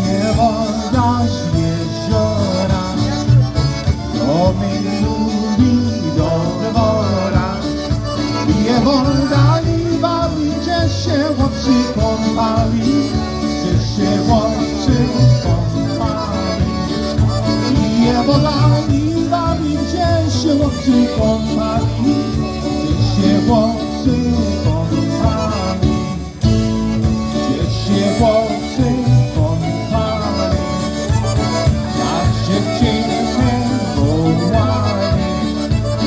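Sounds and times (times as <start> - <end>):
polka band playing: 0.0 - 36.0.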